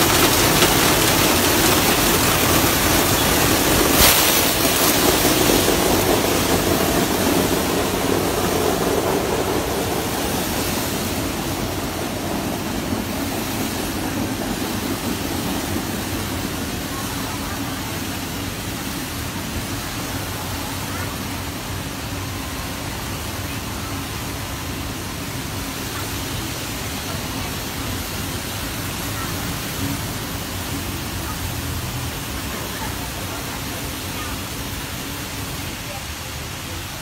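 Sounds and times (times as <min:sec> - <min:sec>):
motorbike wash machine whirring: 0:00.0 - 0:37.0
water spray jets: 0:00.0 - 0:37.0.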